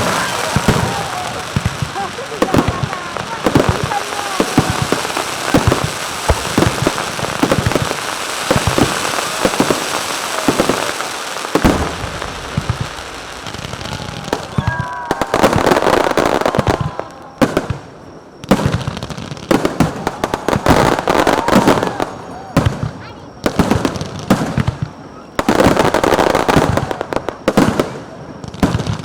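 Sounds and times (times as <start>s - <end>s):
firework crackling: 0.0s - 29.0s
firework shells bursting: 0.0s - 29.0s.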